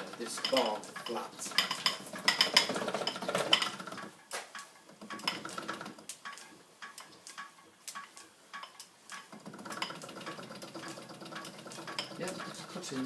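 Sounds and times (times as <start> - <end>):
metallic clinking and chatter: 0.0 - 13.0.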